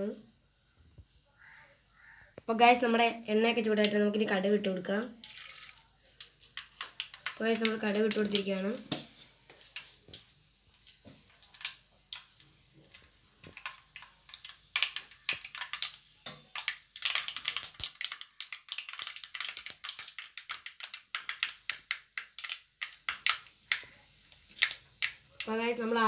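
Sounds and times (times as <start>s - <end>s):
mustard seeds popping in hot oil: 2.4s - 4.5s, 5.1s - 26.0s.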